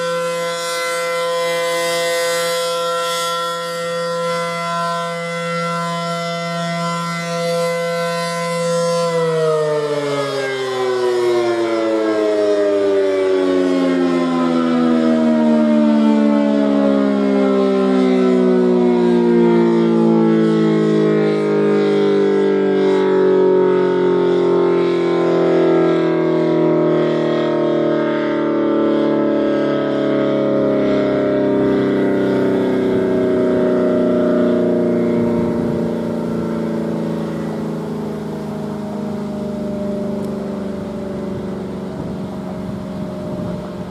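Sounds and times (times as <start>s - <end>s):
rotating warning siren: 0.0s - 43.9s.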